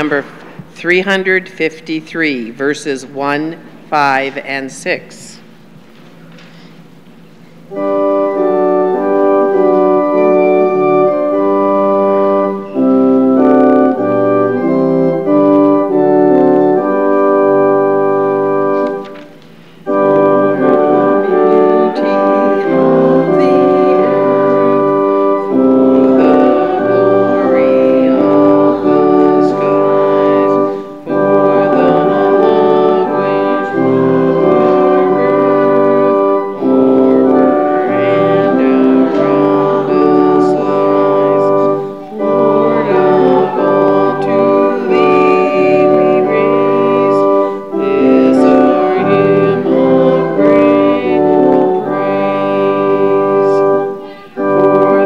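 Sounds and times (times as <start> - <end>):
organ playing hymn chords: 0.0 - 55.0.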